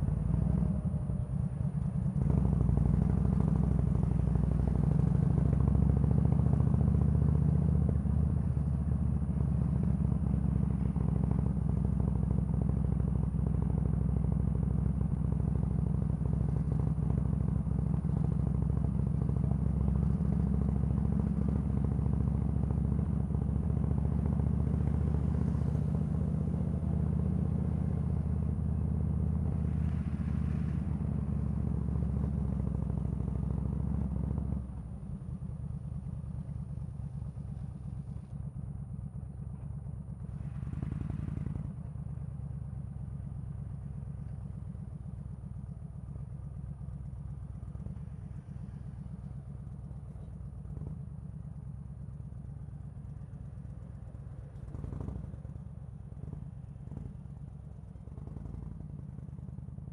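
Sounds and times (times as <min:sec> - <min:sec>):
motorcycle engine rumble: 0:00.0 - 0:07.0, 0:07.8 - 0:59.9.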